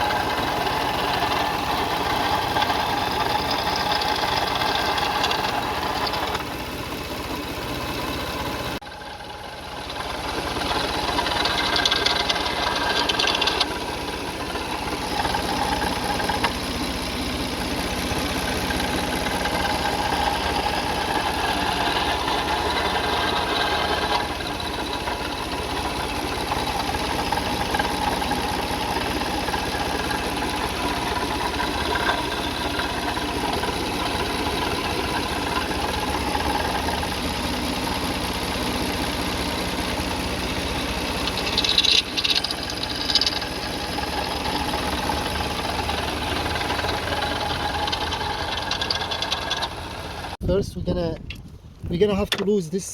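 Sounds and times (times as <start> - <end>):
car engine idling: 0.0 - 50.4.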